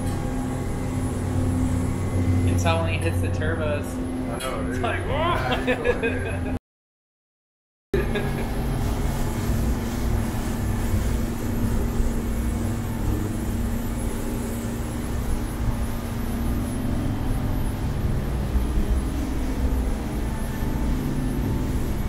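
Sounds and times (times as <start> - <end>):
boat engines droning: 0.0 - 6.6, 8.0 - 22.0.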